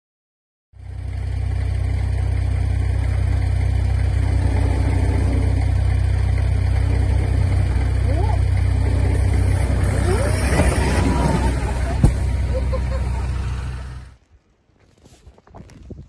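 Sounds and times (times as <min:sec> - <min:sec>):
truck engine idling: 0:00.8 - 0:14.2.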